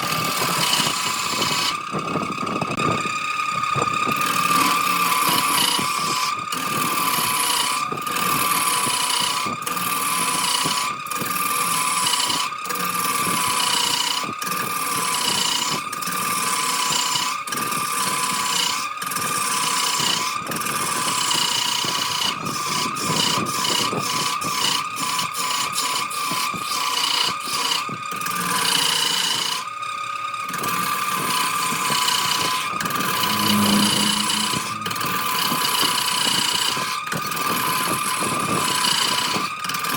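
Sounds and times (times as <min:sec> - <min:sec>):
turning tool shaving wood: 0:00.0 - 0:01.9, 0:04.1 - 0:39.9
wood lathe whine: 0:00.0 - 0:39.9.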